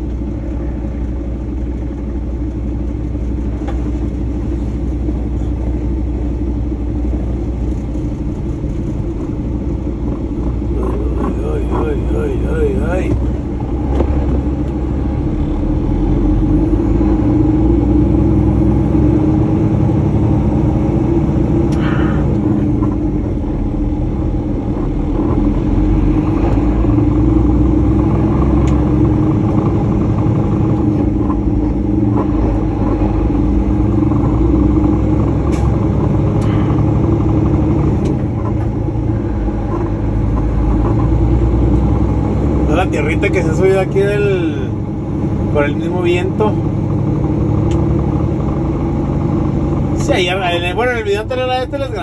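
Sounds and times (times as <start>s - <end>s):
truck engine rumbling: 0.0s - 52.0s.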